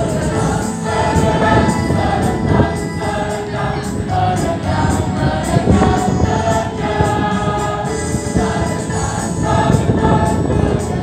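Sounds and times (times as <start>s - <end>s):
mixed choir singing: 0.0s - 11.0s.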